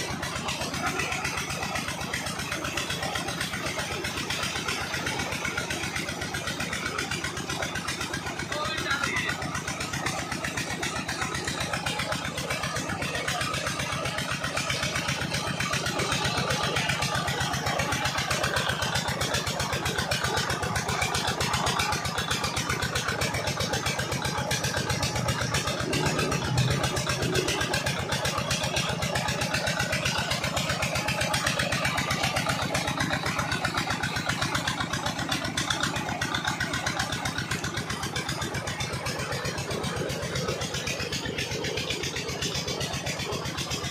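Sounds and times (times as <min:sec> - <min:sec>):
diesel engine running: 0:00.0 - 0:43.9
water gushing from pipes: 0:00.0 - 0:43.9.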